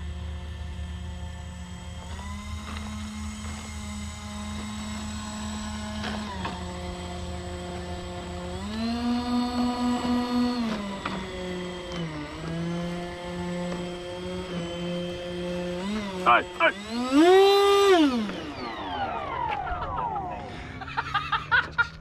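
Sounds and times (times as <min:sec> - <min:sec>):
electric ducted fans whining: 0:00.0 - 0:22.0.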